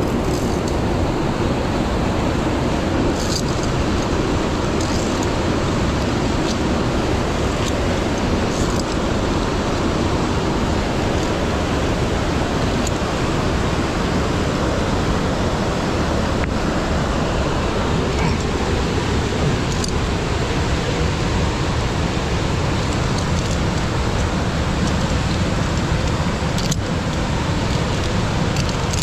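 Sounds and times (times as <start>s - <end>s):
stream and waterfalls roaring: 0.0s - 29.0s.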